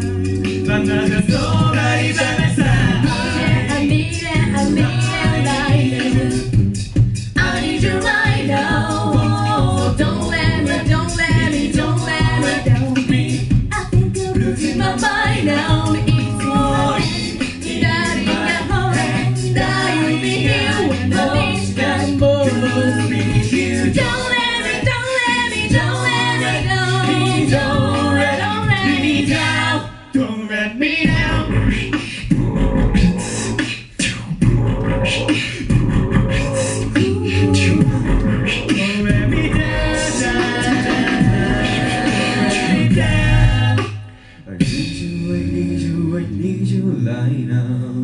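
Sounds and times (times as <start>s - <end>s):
beatboxing: 0.0s - 29.8s, 30.9s - 48.0s
vocal group singing in harmony: 0.0s - 48.0s.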